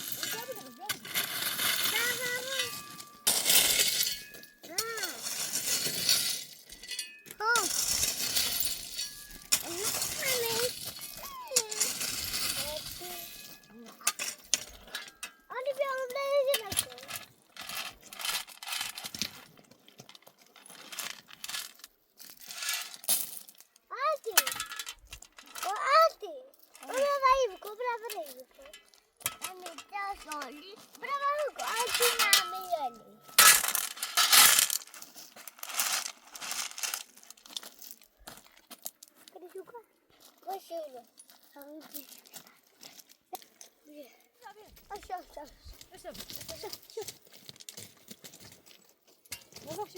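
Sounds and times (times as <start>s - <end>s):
small stones clinking and crunching: 0.0s - 25.8s, 26.4s - 39.4s, 44.8s - 49.9s.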